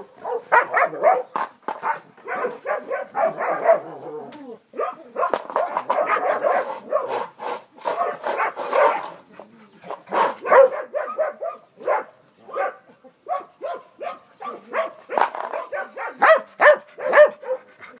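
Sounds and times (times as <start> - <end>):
dog barking: 0.0 - 3.9, 4.8 - 9.2, 10.1 - 17.7.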